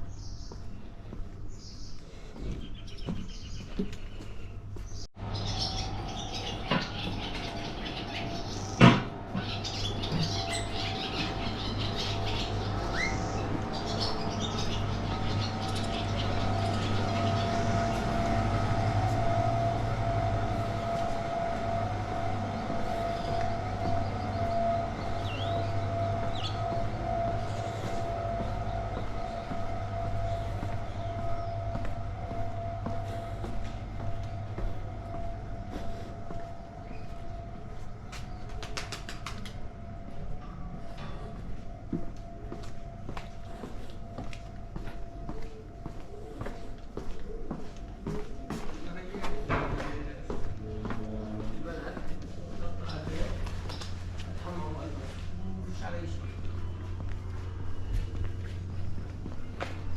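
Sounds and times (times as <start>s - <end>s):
birds chirping: 0.0s - 59.9s
mechanical hum with whine: 2.4s - 59.9s.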